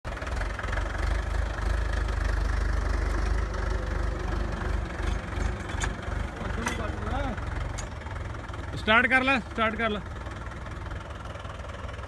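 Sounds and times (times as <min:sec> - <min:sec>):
engine idling with knocking beat: 0:00.1 - 0:12.0.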